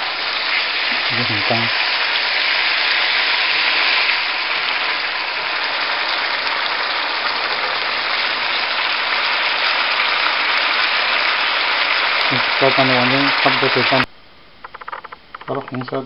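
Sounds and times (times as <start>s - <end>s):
fish sizzling in a wok: 0.0s - 14.0s.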